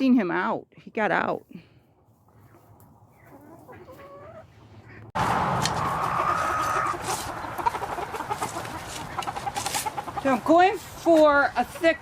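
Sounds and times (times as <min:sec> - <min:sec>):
chickens clucking: 0:02.0 - 0:12.0.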